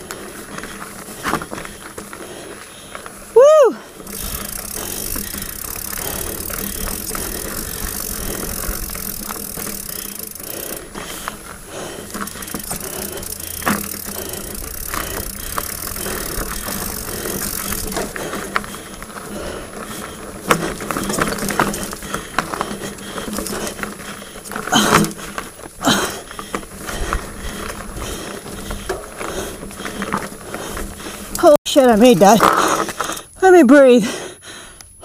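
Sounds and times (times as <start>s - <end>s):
bike knocking: 0.0s - 3.3s, 3.9s - 31.5s.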